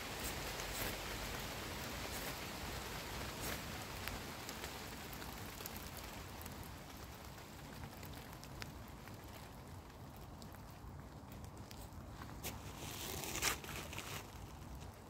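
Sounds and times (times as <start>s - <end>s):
light rain hissing: 0.0s - 13.0s.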